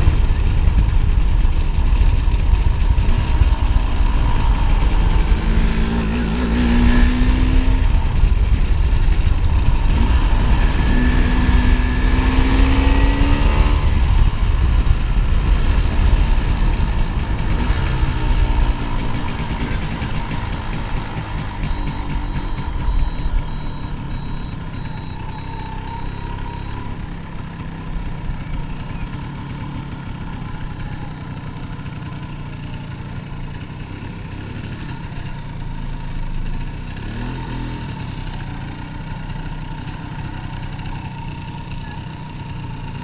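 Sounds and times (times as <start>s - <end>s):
two-stroke motorcycle engine running: 0.0s - 43.0s.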